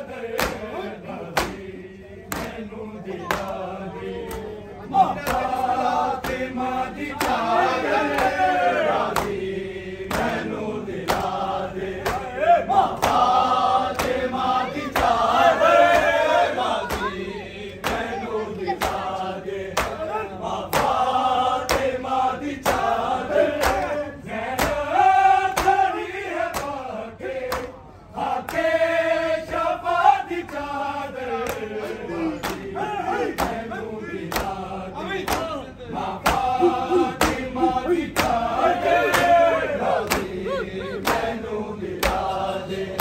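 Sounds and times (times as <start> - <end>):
men chanting in unison: 0.0 - 43.0
rhythmic chest-beating strikes: 0.0 - 43.0.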